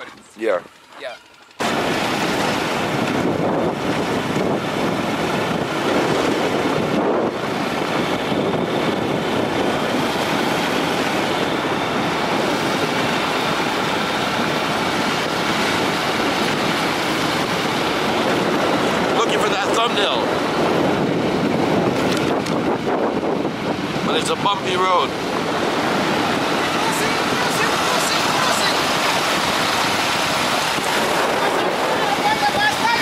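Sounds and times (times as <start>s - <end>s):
motorcycle running: 0.0s - 33.0s
wind rushing over microphone: 1.6s - 33.0s.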